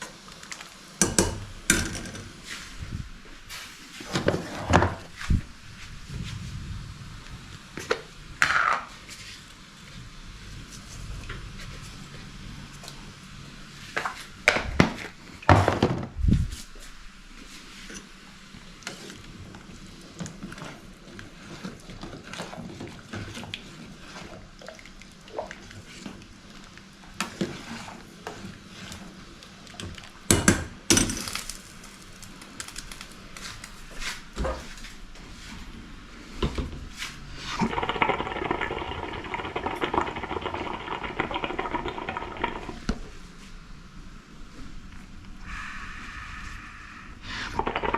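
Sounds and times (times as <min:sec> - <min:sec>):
steady humming hiss: 0:00.0 - 0:22.2, 0:23.6 - 0:47.9.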